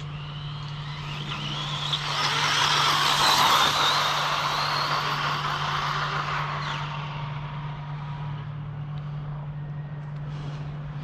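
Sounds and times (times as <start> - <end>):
electric motor high whine: 0.0 - 8.9.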